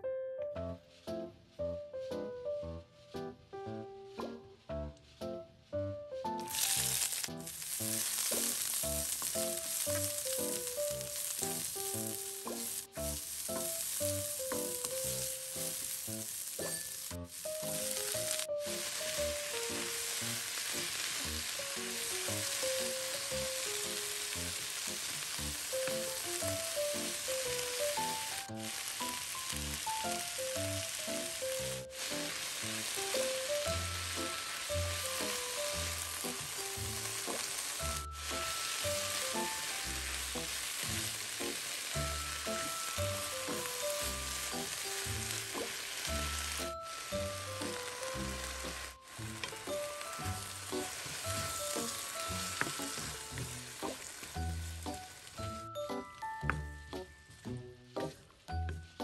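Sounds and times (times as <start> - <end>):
light background music: 0.0 - 59.0
vegetables sizzling in hot oil: 6.3 - 57.1.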